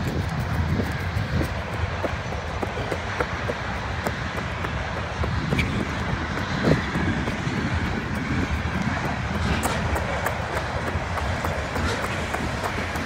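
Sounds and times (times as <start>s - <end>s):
footsteps on gravel: 0.0s - 13.0s
freight train rumbling on rails: 0.0s - 13.0s.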